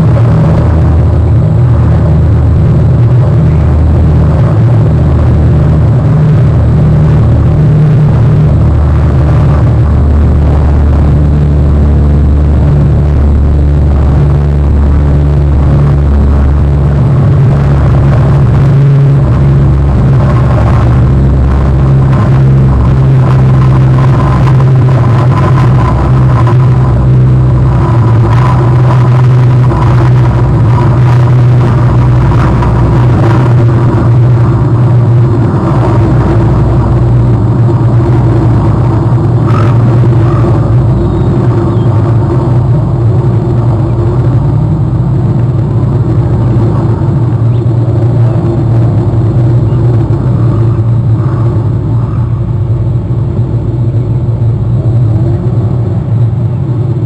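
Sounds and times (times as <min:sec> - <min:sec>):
loud low rumble: 0:00.0 - 0:57.0.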